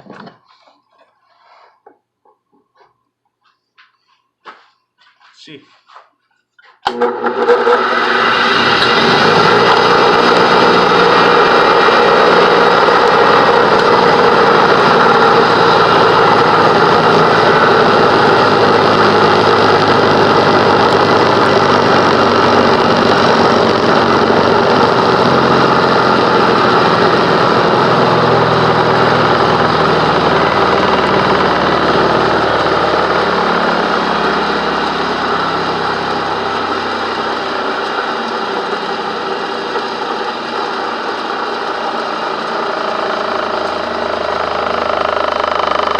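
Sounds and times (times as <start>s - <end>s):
bench grinder motor hum and whine: 6.9s - 45.9s.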